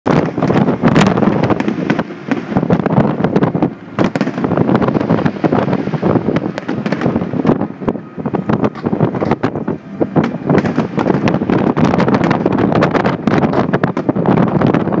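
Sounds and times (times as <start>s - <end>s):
fireworks bursting: 0.1s - 15.0s
fireworks crackle: 0.1s - 15.0s
low rumble: 0.1s - 15.0s.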